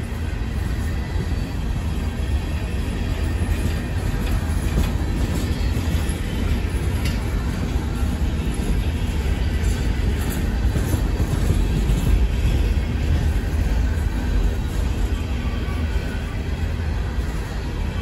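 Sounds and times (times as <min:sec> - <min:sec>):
steel wheels rumbling on rail: 0:00.0 - 0:18.0.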